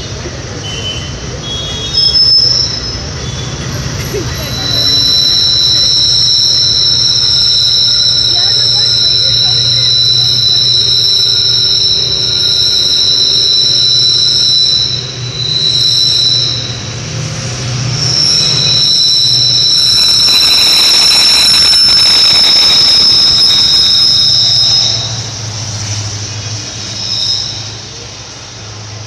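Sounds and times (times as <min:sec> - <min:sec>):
locomotive rumble: 0:00.0 - 0:29.0
train wheels squealing: 0:00.0 - 0:29.0.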